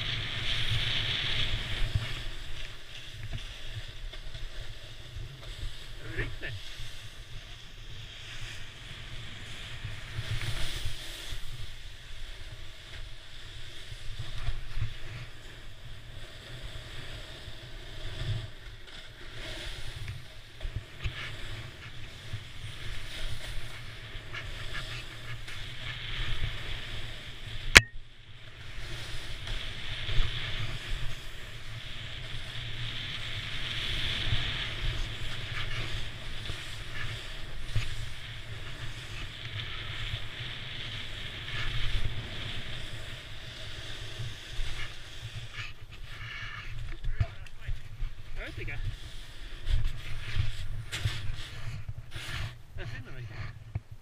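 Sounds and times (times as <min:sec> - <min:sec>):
snow scraping under skis: 0:00.0 - 0:27.7, 0:28.5 - 0:53.7.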